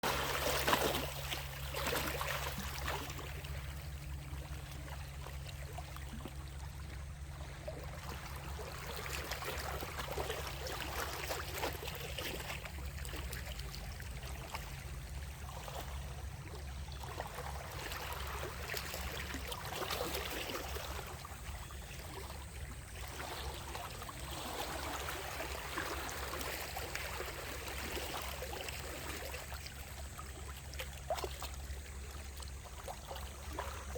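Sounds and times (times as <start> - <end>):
sea waves breaking on shore: 0.0 - 5.3, 7.6 - 32.1.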